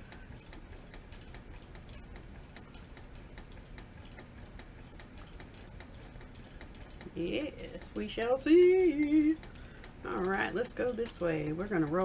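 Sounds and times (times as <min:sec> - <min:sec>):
faint light clicks and ticks: 0:00.0 - 0:12.0
low steady hum: 0:00.0 - 0:12.0.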